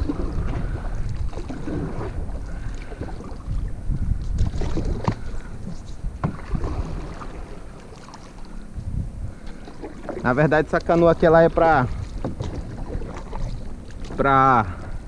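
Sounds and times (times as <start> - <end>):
paddle splashing in water: 0.0 - 8.7, 9.3 - 15.0
wind rumble on microphone: 0.0 - 15.0.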